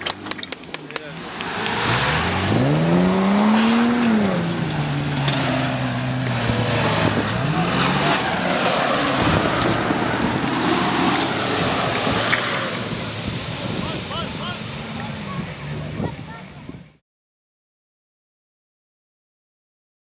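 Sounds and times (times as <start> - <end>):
mud and water splashing: 0.0 - 16.7
truck engine revving: 0.0 - 16.8.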